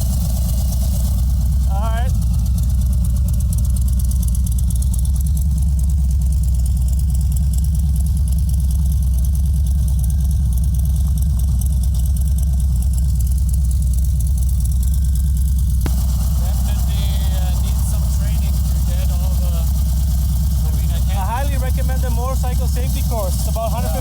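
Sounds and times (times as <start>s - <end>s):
motorcycle engine running low revs: 0.0s - 24.0s.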